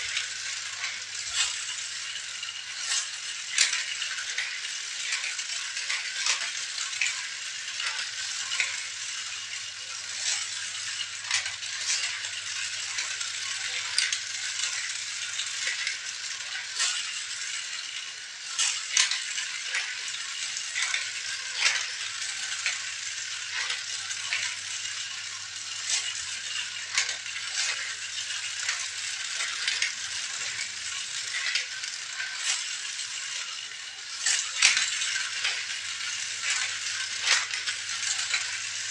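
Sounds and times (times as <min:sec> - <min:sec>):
toys rustling and rattling: 0:00.0 - 0:38.9.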